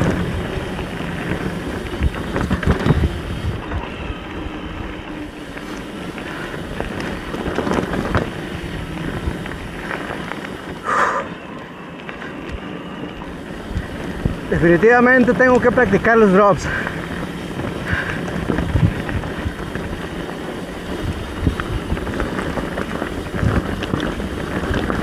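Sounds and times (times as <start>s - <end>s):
bike rattling and knocking: 0.0s - 10.9s, 11.9s - 25.0s
wind on microphone: 0.0s - 11.5s, 12.1s - 25.0s
tyres running over dirt: 0.0s - 25.0s.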